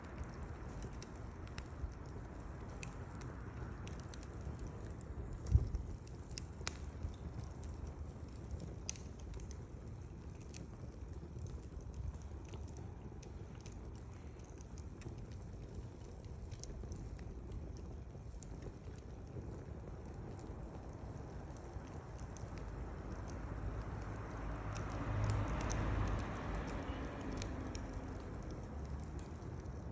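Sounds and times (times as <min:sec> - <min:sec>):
low steady fire rumble: 0:00.0 - 0:29.9
wood fire crackling: 0:00.0 - 0:29.9.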